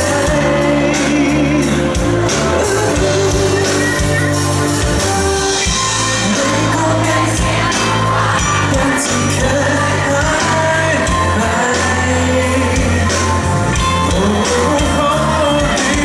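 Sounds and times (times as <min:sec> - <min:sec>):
backing music with drum beat: 0:00.0 - 0:16.0
man singing pop song: 0:00.0 - 0:16.0.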